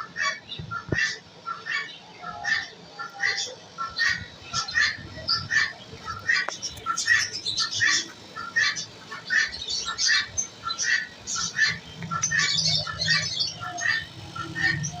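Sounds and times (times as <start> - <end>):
caged birds chirping and squawking: 0.0 - 15.0.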